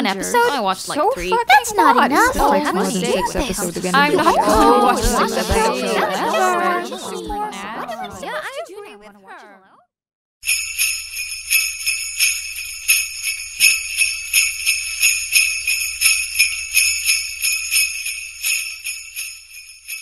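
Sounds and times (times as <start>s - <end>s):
sleigh bells shaken: 1.2s - 8.9s, 10.4s - 20.0s.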